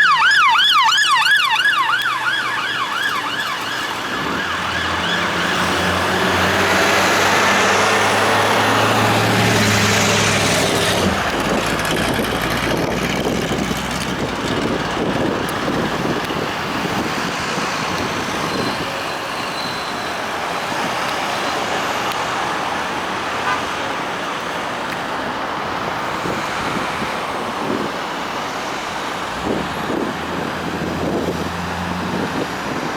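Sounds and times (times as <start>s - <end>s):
passing road traffic: 0.0s - 32.9s
heavy vehicle engine droning: 1.8s - 32.9s.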